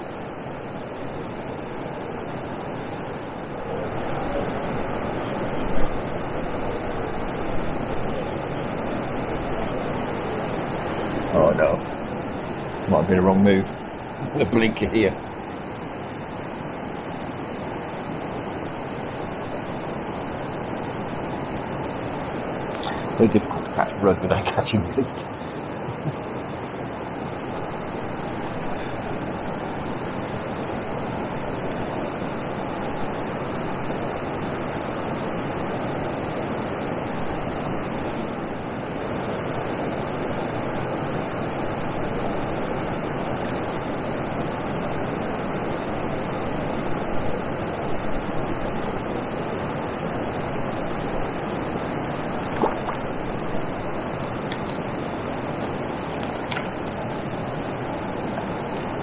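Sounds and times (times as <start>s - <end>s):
water rushing over weir: 0.0s - 59.0s
wind: 0.0s - 59.0s.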